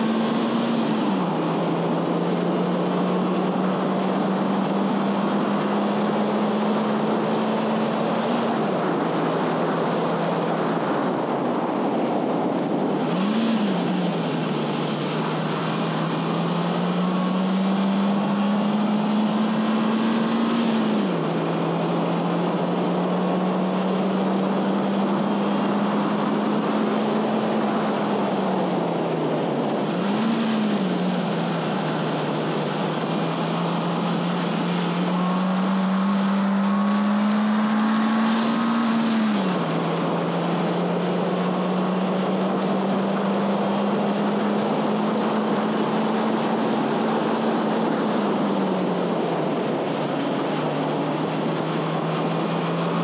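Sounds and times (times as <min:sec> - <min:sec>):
car engine revving hard: 0:00.0 - 0:53.0
road and wind noise: 0:00.0 - 0:53.0.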